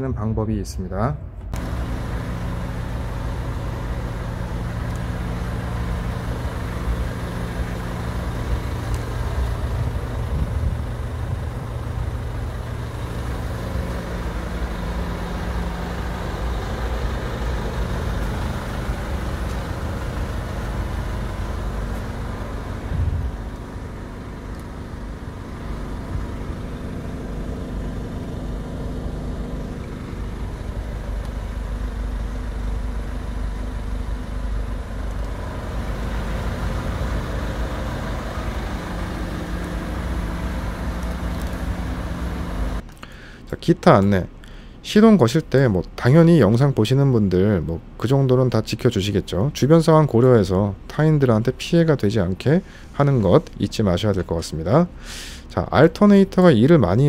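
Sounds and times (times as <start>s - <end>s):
diesel engine idling: 1.2s - 57.0s.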